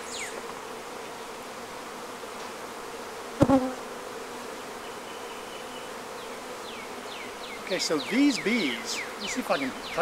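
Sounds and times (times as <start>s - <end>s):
honeybees humming: 0.0s - 10.0s.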